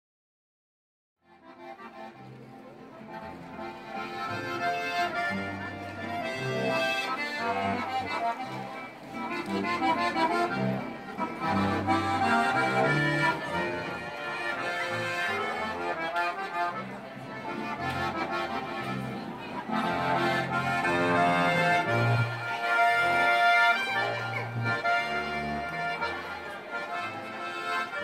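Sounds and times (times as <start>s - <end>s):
button accordion melody: 1.3s - 28.0s
double bass: 3.2s - 28.0s.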